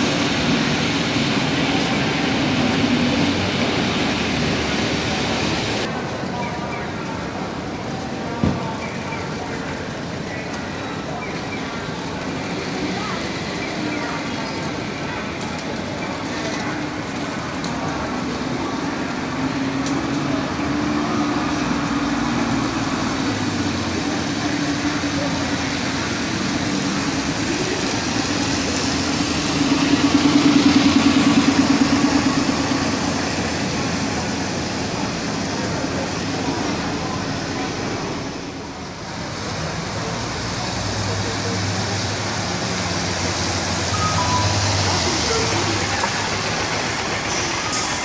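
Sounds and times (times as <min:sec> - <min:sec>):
bus diesel engine passing: 0:00.0 - 0:48.0
tyres hissing on wet road: 0:00.0 - 0:48.0.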